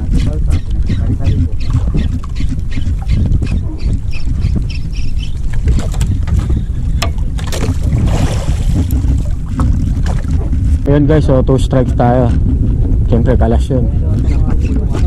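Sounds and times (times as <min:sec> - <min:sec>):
water washing against boat: 0:00.0 - 0:15.0
wind buffeting microphone: 0:00.0 - 0:15.0.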